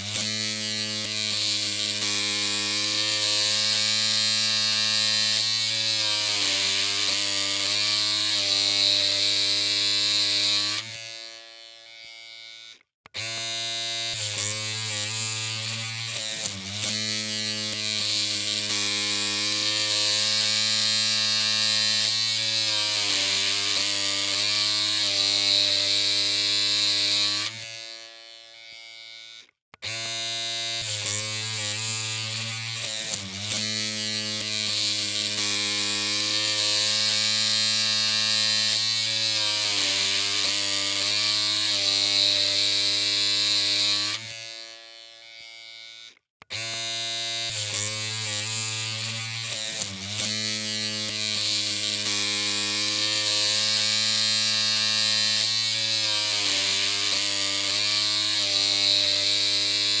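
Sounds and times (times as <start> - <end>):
electric hair clippers buzzing: 0.0 - 60.0.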